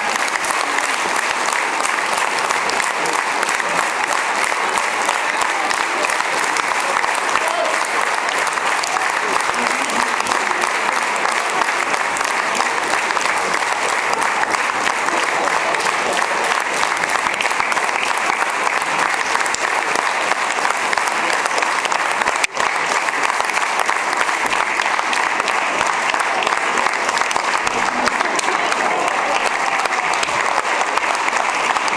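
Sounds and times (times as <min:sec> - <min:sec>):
audience applauding: 0:00.0 - 0:31.9.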